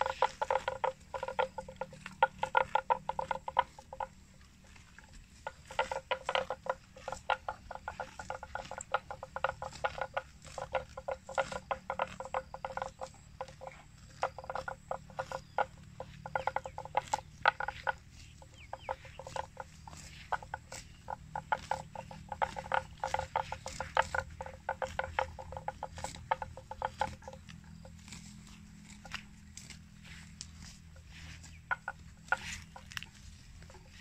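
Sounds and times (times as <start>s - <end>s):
buffalo ripping and chewing grass: 0.0s - 34.0s.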